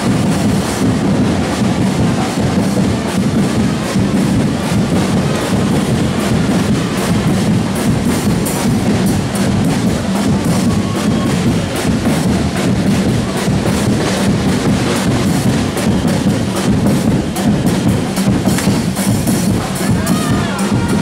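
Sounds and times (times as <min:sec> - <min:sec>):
hand drums and bass drum: 0:00.0 - 0:21.0.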